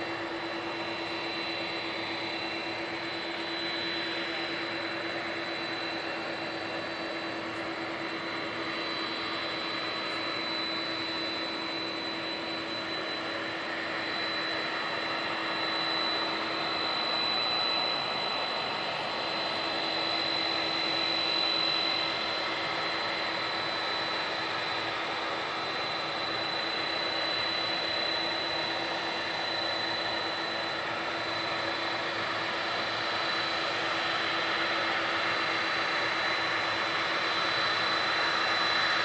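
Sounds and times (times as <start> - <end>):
jet engines taxiing: 0.0 - 39.0.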